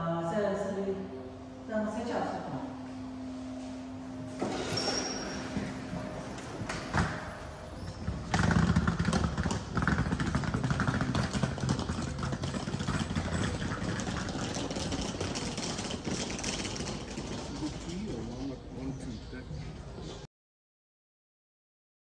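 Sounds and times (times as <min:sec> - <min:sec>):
train engine rumbling: 0:00.7 - 0:20.2.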